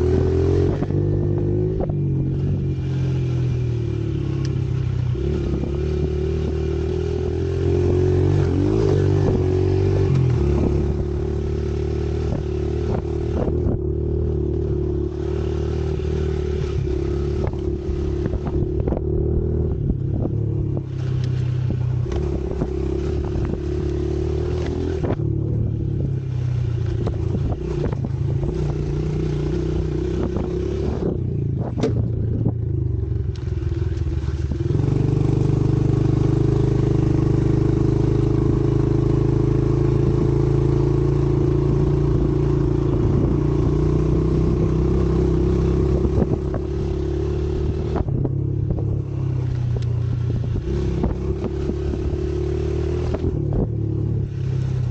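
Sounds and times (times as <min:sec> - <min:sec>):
motorbike engine revving: 0:00.0 - 0:54.9.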